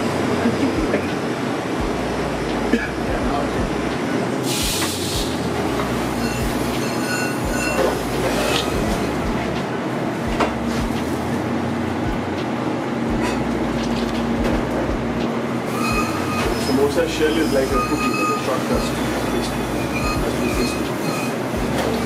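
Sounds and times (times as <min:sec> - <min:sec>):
busy commercial kitchen noise: 0:00.0 - 0:22.0.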